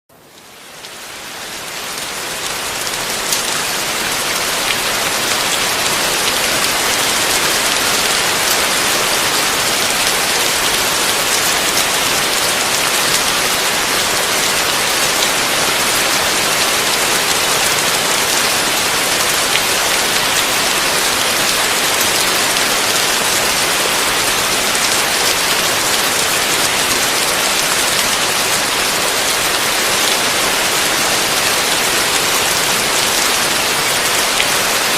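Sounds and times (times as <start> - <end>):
heavy rain on a roof: 0.1 - 34.9.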